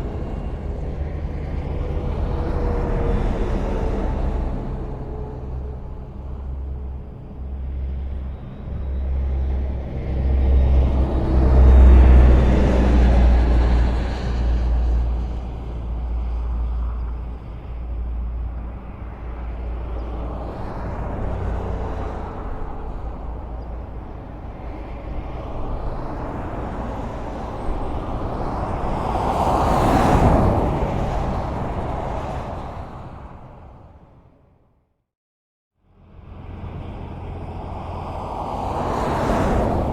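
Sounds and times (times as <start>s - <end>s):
highway traffic rumble: 0.0s - 34.8s, 35.8s - 39.9s.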